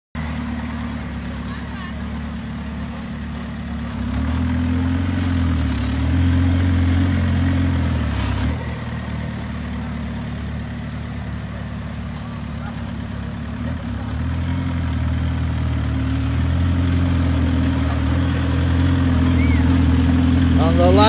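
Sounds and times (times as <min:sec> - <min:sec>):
turbodiesel engine revving: 0:00.2 - 0:21.0.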